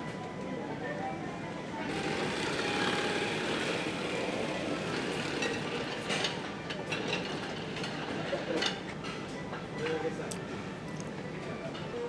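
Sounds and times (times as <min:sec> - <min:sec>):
restaurant din: 0:00.0 - 0:12.0.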